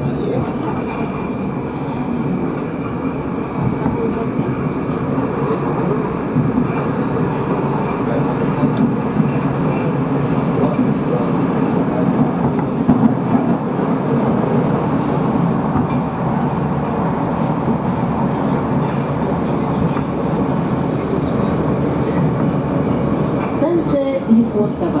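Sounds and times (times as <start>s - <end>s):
train rumbling in a tunnel: 0.0s - 25.0s.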